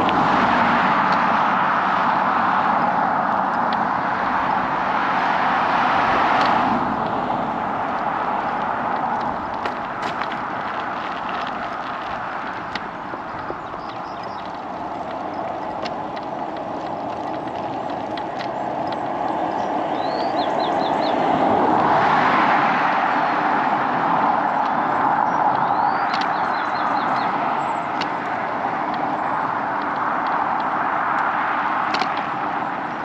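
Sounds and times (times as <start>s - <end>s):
road noise: 0.0s - 33.0s
wind on microphone: 0.0s - 33.0s.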